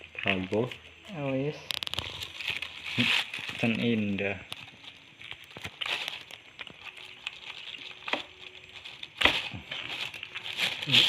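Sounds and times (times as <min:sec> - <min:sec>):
small clicks and light crackles: 0:00.0 - 0:09.3.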